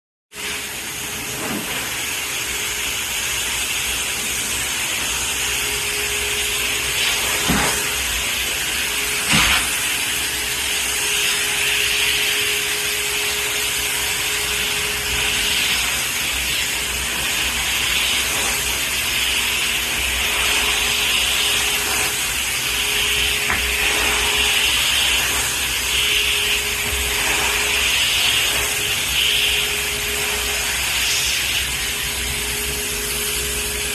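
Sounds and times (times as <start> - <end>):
carpet extraction vacuum hum: 0.4 - 33.9
extraction wand hiss: 0.4 - 33.9.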